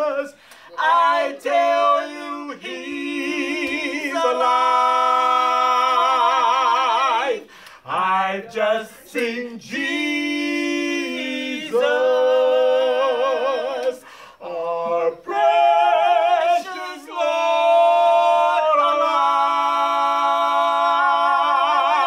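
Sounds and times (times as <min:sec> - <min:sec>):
man and woman singing a cappella: 0:00.0 - 0:22.0.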